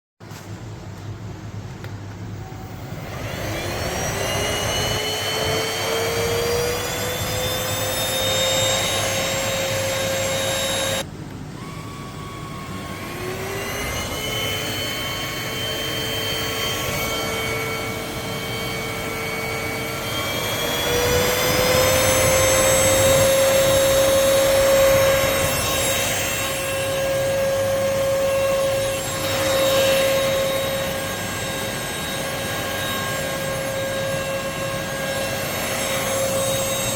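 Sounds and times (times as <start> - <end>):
vacuum motor whining: 2.3 - 36.9.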